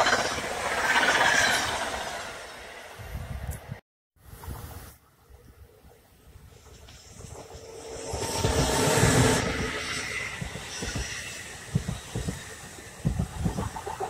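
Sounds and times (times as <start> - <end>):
train passing at speed: 0.0 - 3.8, 6.4 - 14.0.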